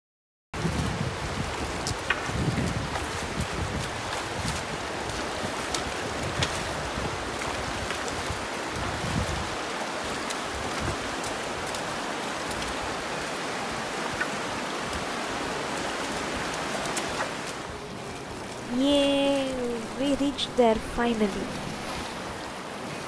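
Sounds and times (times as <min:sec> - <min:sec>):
water rushing over rocks: 0:00.6 - 0:23.0.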